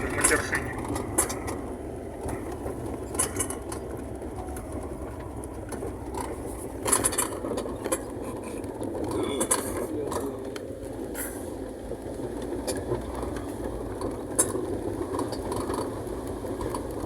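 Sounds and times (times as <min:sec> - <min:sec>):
car engine and road rumble: 0:00.0 - 0:17.0
knocks and rattles over bumps: 0:00.0 - 0:17.0.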